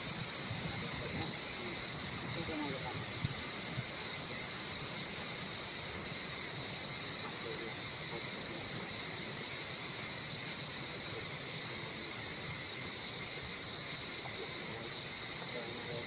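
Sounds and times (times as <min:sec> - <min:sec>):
insect drone: 0:00.0 - 0:16.0
shrill insect pulsing: 0:00.0 - 0:16.0.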